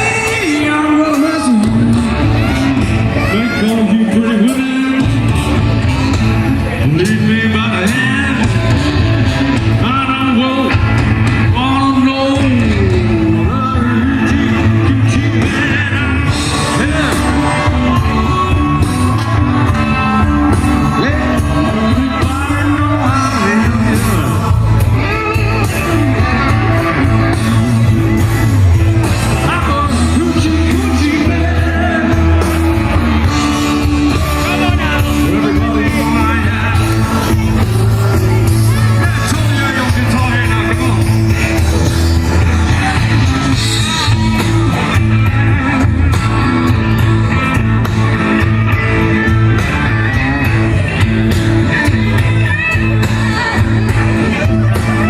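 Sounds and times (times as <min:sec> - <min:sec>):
bass line: 0:00.0 - 0:55.0
blues band playing: 0:00.0 - 0:55.0
person singing: 0:00.0 - 0:55.0.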